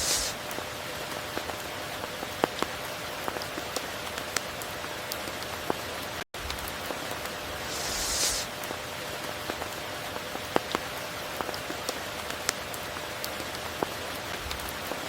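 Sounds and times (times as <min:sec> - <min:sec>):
rain hiss: 0:00.0 - 0:03.9, 0:06.4 - 0:15.0.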